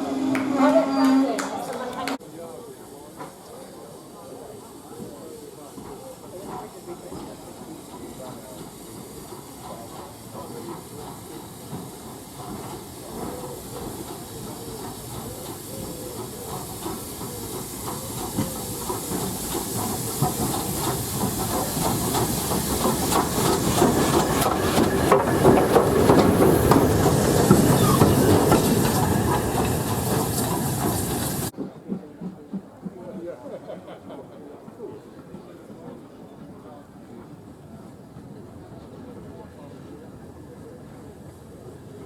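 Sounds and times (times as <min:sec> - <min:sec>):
steam locomotive hissing steam: 0:00.0 - 0:42.0
train rattling over rails: 0:00.0 - 0:42.0.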